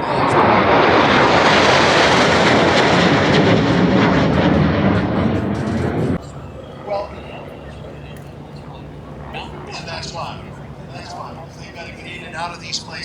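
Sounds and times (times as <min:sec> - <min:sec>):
aircraft engine roar: 0:00.0 - 0:13.0.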